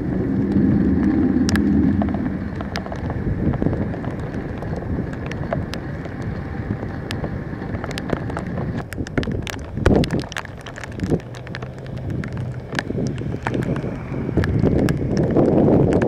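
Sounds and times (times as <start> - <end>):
raindrops ticking: 0.0 - 16.0
steady rain: 0.0 - 16.0
wind buffeting microphone: 0.0 - 16.0.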